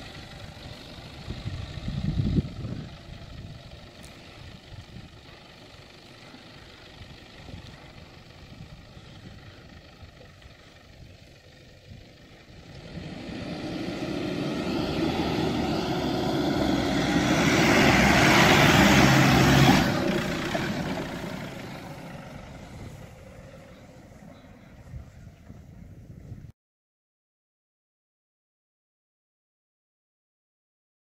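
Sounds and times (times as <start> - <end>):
vehicle engine driving through sand: 0.0 - 26.5.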